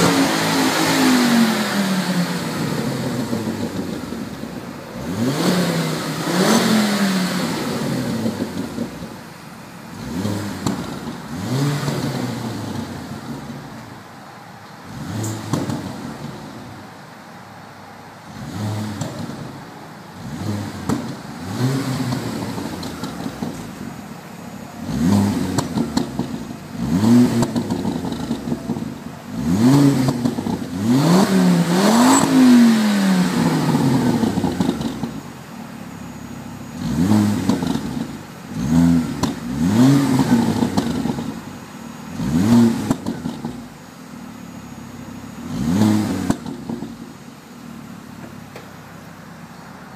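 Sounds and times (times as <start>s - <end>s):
car engine revving: 0.0s - 49.6s.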